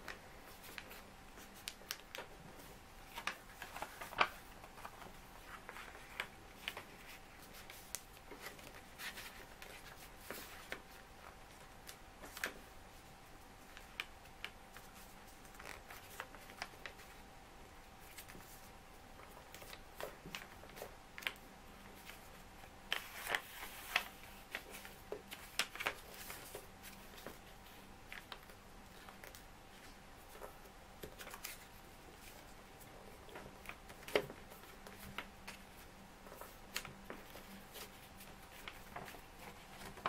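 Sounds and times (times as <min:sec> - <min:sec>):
faint steady hum: 0:00.0 - 0:40.0
paper being folded and creased: 0:00.1 - 0:12.6, 0:13.6 - 0:17.2, 0:22.0 - 0:40.0.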